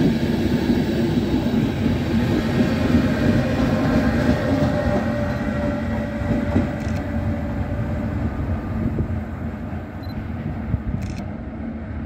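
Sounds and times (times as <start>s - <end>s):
electric locomotive hum: 0.0s - 12.0s
wheels rumbling on rail: 0.0s - 12.0s.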